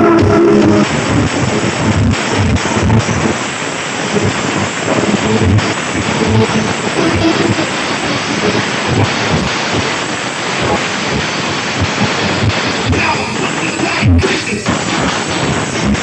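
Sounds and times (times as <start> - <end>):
overdriven loud sound system music: 0.0 - 16.0.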